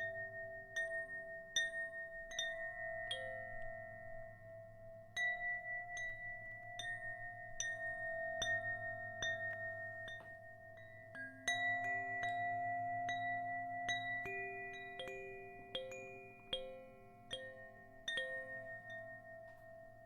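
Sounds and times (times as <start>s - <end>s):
bell-like notes ringing: 0.0s - 20.0s.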